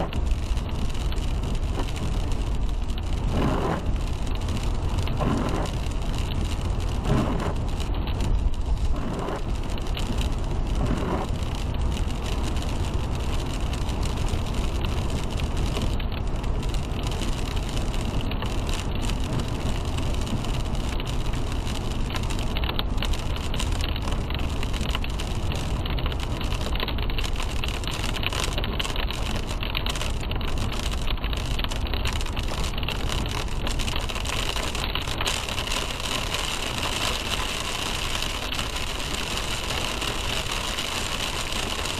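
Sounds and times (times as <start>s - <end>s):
rain hiss: 0.0s - 41.9s
road and tyre rumble: 0.0s - 41.9s.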